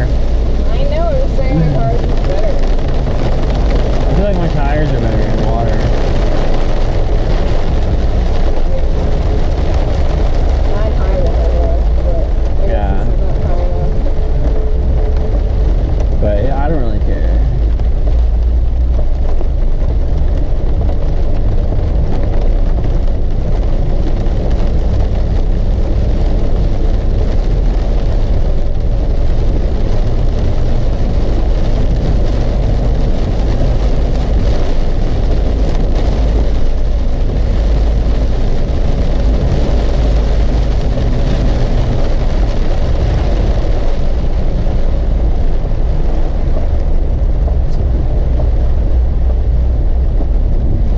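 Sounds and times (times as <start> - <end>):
car road and engine rumble: 0.0 - 50.9
rain hiss: 0.0 - 50.9.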